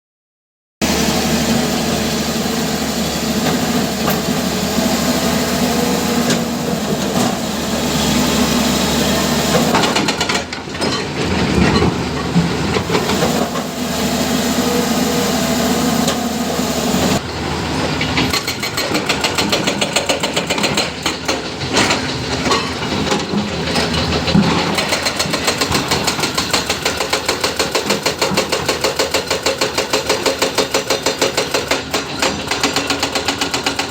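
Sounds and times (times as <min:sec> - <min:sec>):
excavator diesel engine running: 0:00.8 - 0:33.9.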